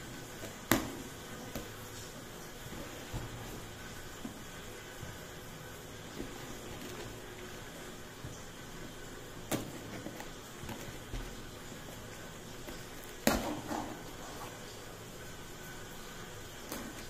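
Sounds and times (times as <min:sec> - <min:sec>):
tape and cardboard crackling: 0:00.0 - 0:14.9.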